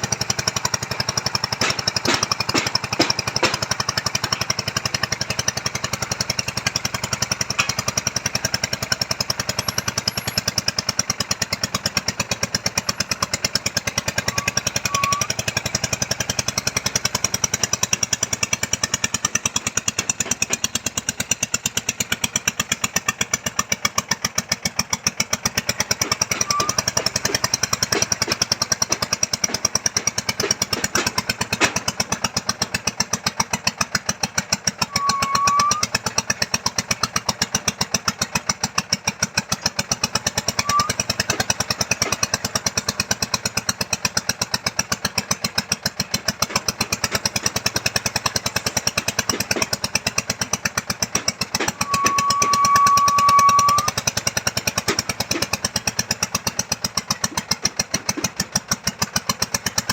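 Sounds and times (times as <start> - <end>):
soil-boring machine knocking: 0.0 - 59.9.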